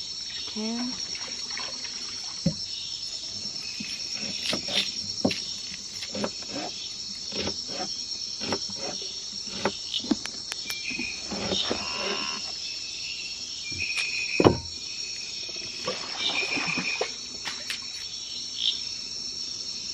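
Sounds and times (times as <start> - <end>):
insects chorus: 0.0 - 19.9.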